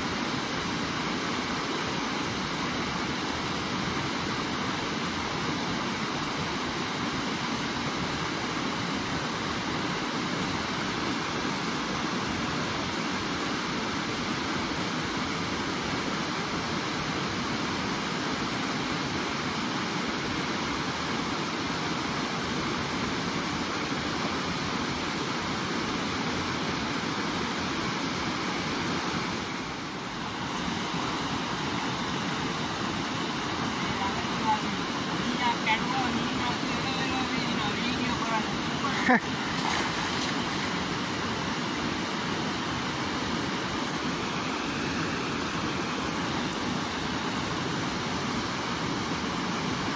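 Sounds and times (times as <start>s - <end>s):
water rushing over rapids: 0.0s - 49.9s.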